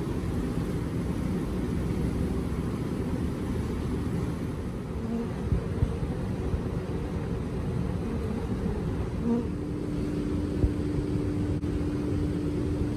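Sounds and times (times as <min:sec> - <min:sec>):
honey bees buzzing: 0:00.0 - 0:12.9
steady wingbeat hum: 0:00.0 - 0:12.9.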